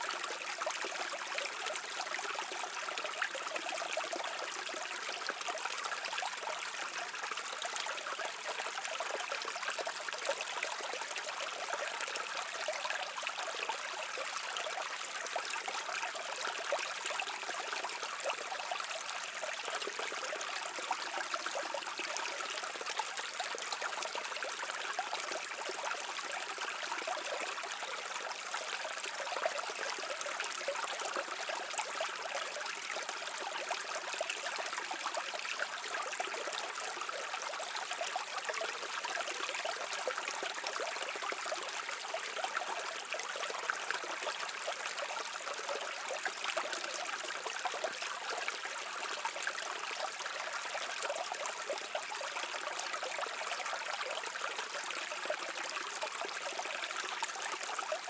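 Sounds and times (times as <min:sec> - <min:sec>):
brook trickling over stones: 0:00.0 - 0:58.0.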